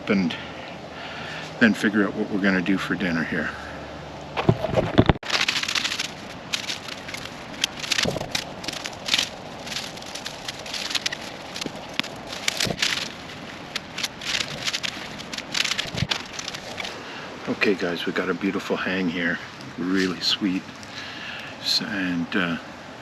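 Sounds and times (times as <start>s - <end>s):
hammock rustling and crackling: 4.2s - 22.7s.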